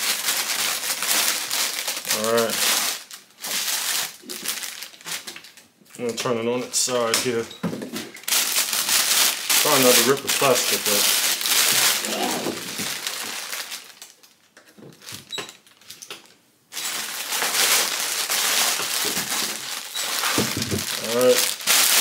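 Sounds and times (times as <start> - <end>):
plastic bag crinkling: 0.0 - 5.6, 8.0 - 22.0.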